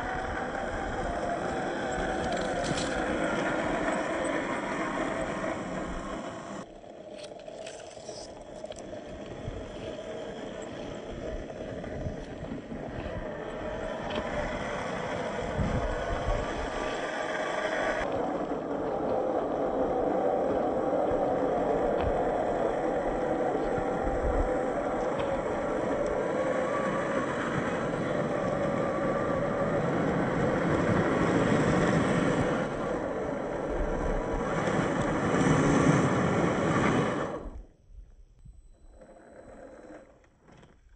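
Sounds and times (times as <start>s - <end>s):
electric motor whining: 0.0s - 35.9s.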